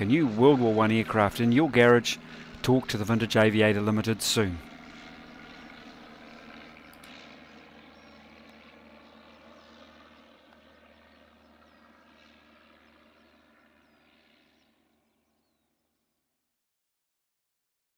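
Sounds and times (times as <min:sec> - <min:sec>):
open-air background noise: 0:00.0 - 0:15.7
distant propeller aircraft drone: 0:00.0 - 0:16.4.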